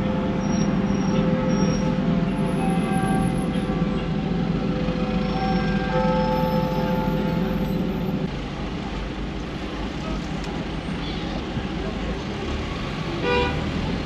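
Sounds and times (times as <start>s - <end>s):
road and traffic noise: 0.0s - 14.0s.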